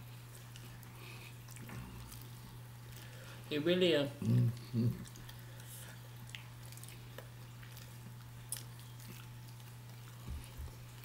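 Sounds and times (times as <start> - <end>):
people chewing fried chicken: 0.0 - 3.5, 4.1 - 11.0
steady low hum: 0.0 - 11.0.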